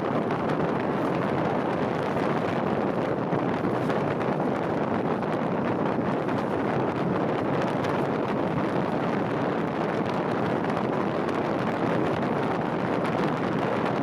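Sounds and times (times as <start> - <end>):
vehicle road noise: 0.0 - 14.0
wind noise on microphone: 0.0 - 14.0.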